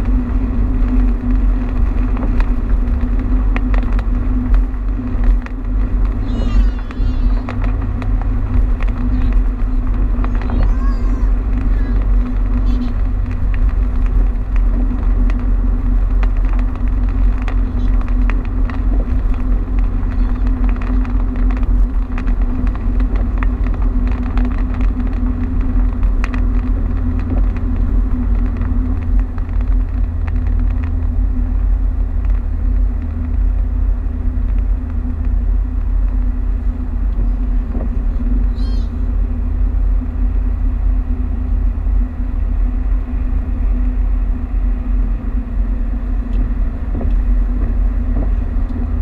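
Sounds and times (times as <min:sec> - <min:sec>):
constant drone: 0:00.0 - 0:49.0
road rumble: 0:00.0 - 0:49.0
rain striking car: 0:00.8 - 0:43.9.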